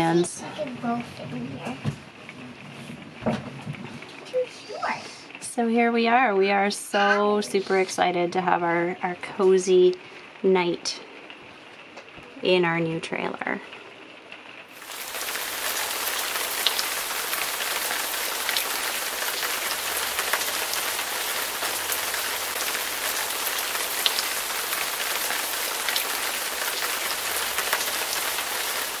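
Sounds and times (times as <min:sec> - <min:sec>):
rain on a hard surface: 0:00.0 - 0:29.0.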